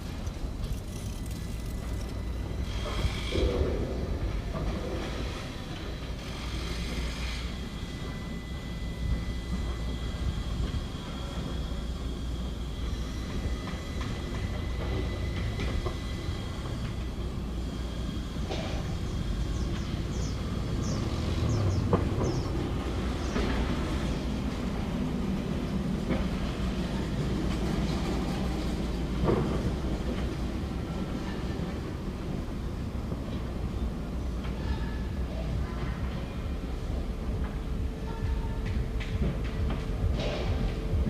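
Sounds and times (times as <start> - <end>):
heavy machinery rumbling: 0.0 - 41.0.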